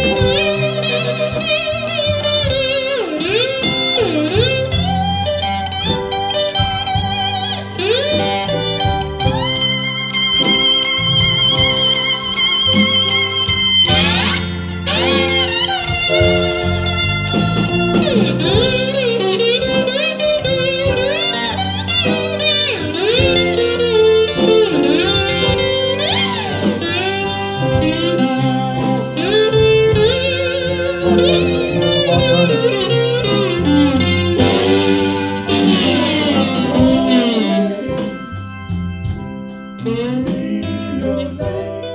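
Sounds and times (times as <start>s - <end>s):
bass line: 0.0s - 41.9s
drum kit: 0.0s - 41.9s
electric slide guitar solo: 0.0s - 41.9s.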